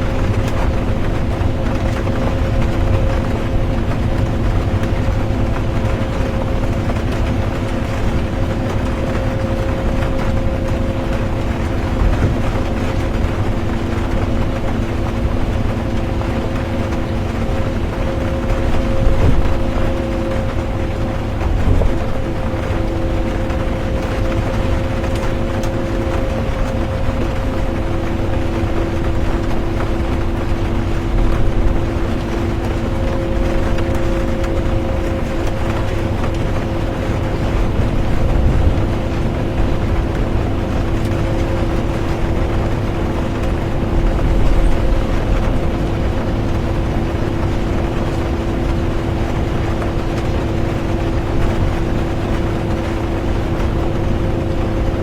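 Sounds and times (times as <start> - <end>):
bus engine and road drone: 0.0 - 55.0
rain: 0.0 - 55.0.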